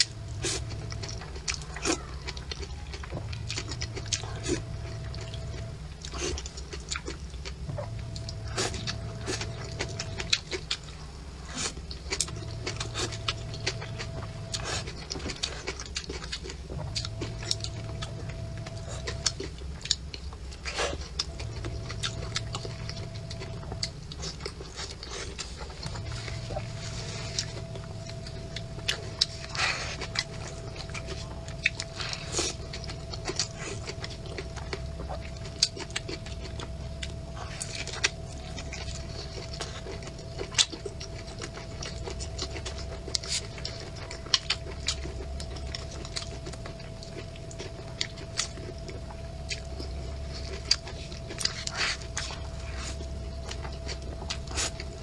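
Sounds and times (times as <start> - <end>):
faint steady hum: 0.0 - 55.0
person chewing wetly: 0.0 - 55.0.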